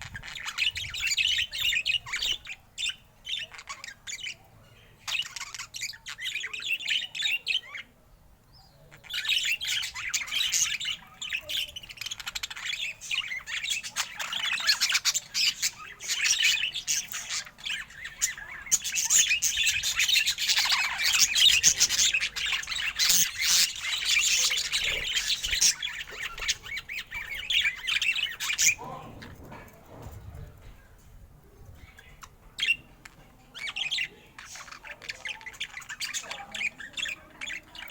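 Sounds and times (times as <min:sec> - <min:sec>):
budgerigars chattering and warbling: 0:00.0 - 0:08.0, 0:08.9 - 0:30.7, 0:31.8 - 0:37.9.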